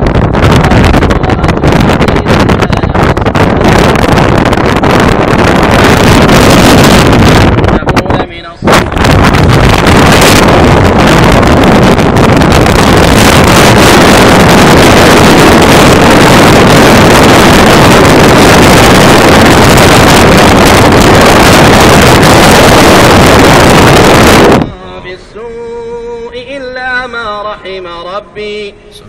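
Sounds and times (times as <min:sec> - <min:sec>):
loud steady rushing noise: 0:00.0 - 0:28.9.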